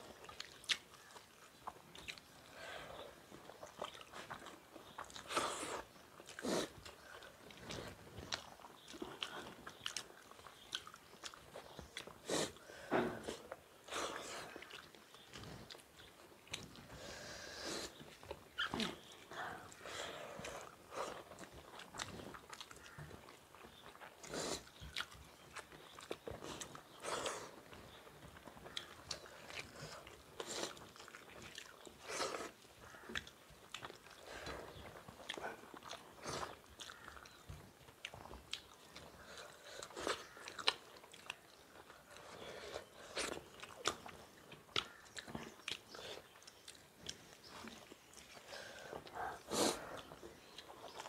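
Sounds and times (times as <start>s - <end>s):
chewing and lip-smacking: 0.0s - 17.0s, 17.9s - 51.0s.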